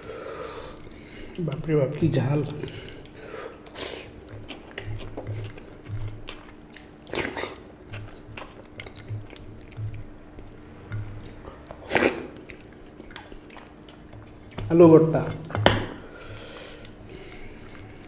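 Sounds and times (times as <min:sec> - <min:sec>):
person chewing: 0:00.0 - 0:14.7, 0:15.3 - 0:18.0
soft wet squishes: 0:00.7 - 0:18.0.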